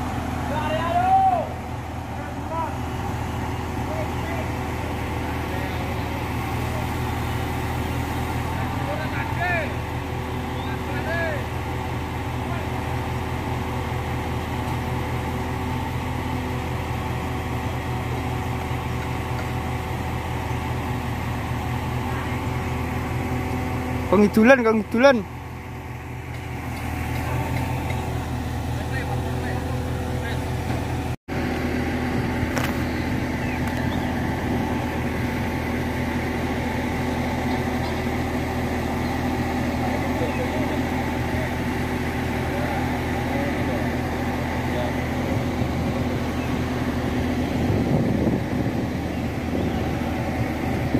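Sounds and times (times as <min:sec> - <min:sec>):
crane diesel engine running: 0:00.0 - 0:50.9.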